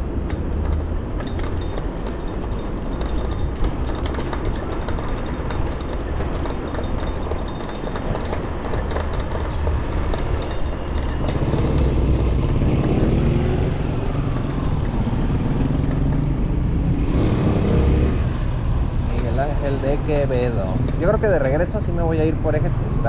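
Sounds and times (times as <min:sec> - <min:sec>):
motor vehicle engine running: 0:00.0 - 0:23.0
street traffic: 0:00.0 - 0:23.0
wind: 0:00.0 - 0:23.0.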